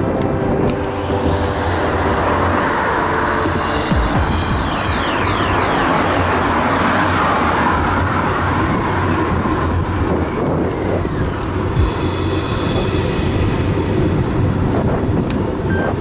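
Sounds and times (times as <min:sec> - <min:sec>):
road noise: 0:00.0 - 0:16.0
wind rush on microphone: 0:00.0 - 0:16.0
car traffic passing: 0:00.3 - 0:15.3.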